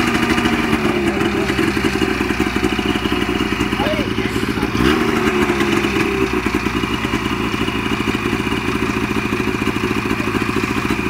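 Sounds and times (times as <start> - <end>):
snowmobile engine idling: 0.0 - 11.0.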